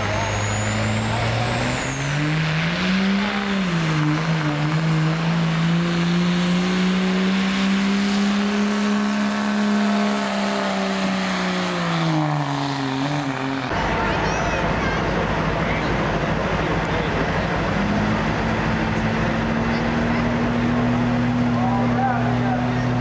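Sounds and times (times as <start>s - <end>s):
diesel pickup engine revving: 0.0s - 23.0s.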